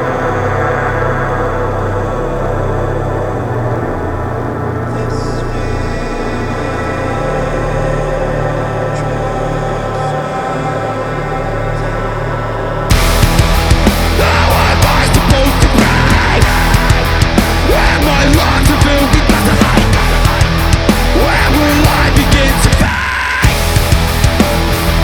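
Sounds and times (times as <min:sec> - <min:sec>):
heavy rock song: 0:00.0 - 0:25.0.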